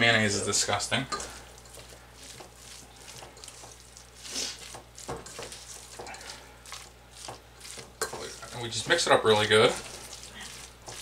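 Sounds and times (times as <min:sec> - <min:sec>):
wet squishing of mixing: 0:00.0 - 0:11.0.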